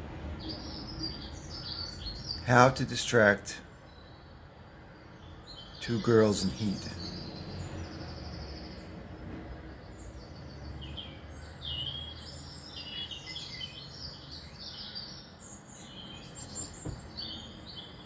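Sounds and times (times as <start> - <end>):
songbirds chirping on television: 0.0 - 18.0.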